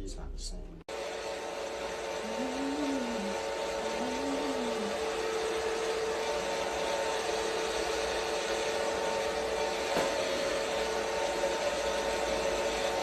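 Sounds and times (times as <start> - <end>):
hair dryer running: 0.9 - 13.0.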